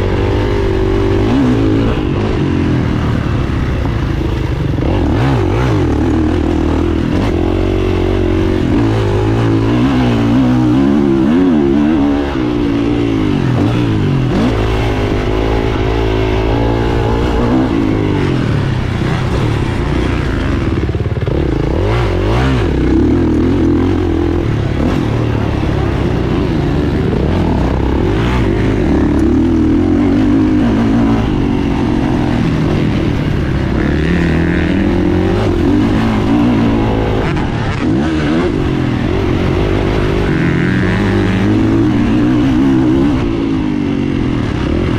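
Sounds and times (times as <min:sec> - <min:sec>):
motocross engine revving: 0:00.0 - 0:44.9.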